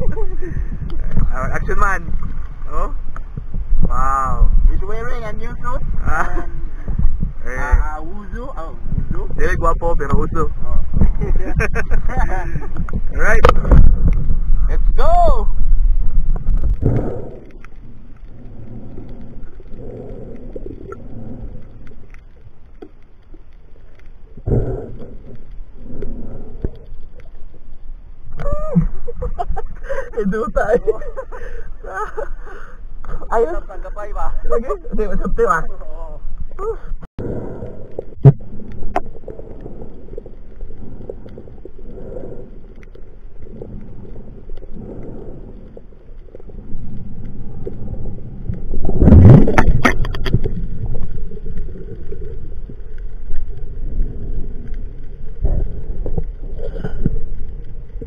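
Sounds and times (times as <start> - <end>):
underwater water movement rumble: 0.0 - 58.0.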